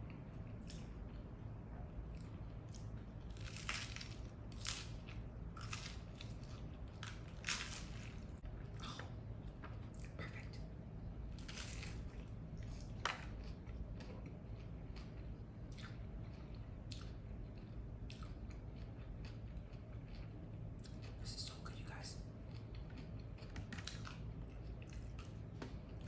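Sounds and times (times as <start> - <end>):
crunching and chewing: 0.0 - 26.0.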